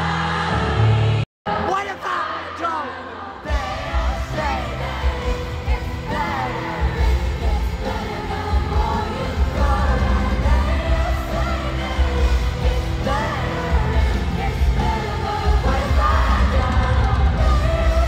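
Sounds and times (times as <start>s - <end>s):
band with booming bass: 3.4s - 18.0s.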